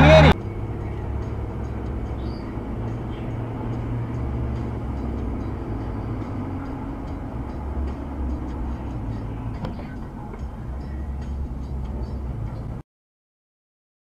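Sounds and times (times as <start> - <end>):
car interior road rumble: 0.0 - 12.8.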